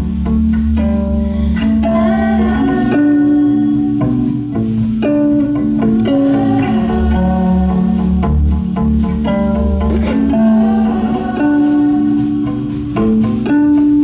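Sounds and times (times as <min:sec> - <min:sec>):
bass line: 0:00.0 - 0:14.0
cello: 0:00.0 - 0:14.0
drums: 0:00.0 - 0:14.0
electric guitar: 0:00.0 - 0:14.0.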